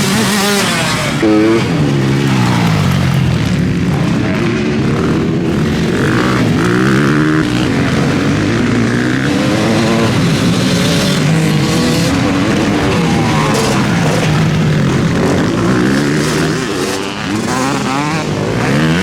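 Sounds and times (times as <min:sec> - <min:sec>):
motocross engines revving: 0:00.0 - 0:19.0.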